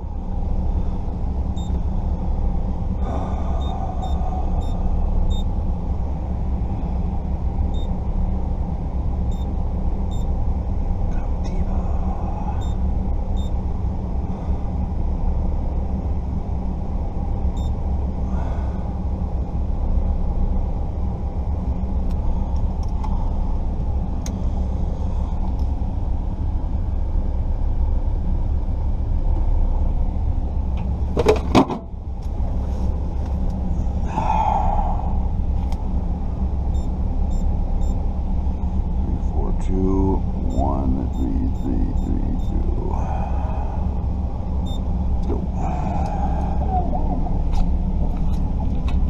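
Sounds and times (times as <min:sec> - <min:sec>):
vehicle idling rumble: 0:00.0 - 0:49.0.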